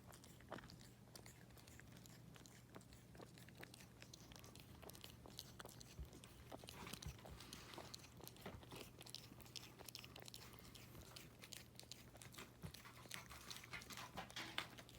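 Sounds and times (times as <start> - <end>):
cat chewing on string: 0.0 - 14.9.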